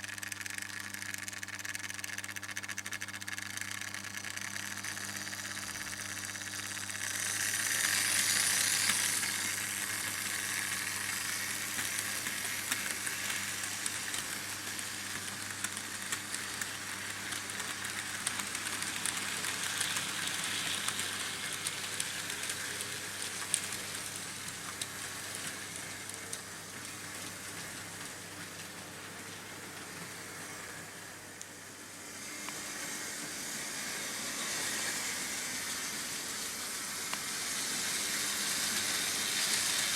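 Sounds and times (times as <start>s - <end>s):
model trains rolling on metal track: 0.0s - 39.9s.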